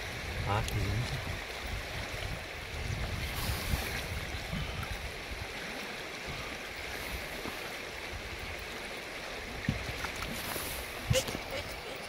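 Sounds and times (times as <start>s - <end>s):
river flowing: 0.0s - 12.0s.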